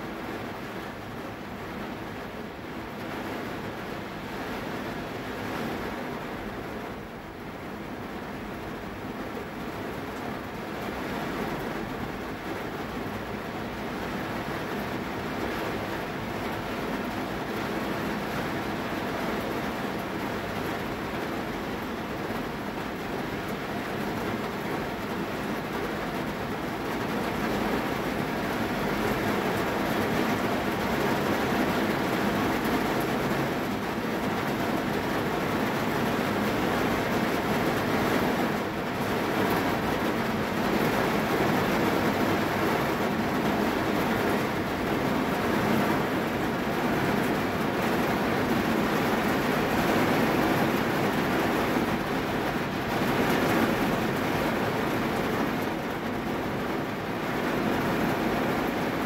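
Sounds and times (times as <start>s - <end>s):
heavy rain on car roof: 0.0s - 59.0s.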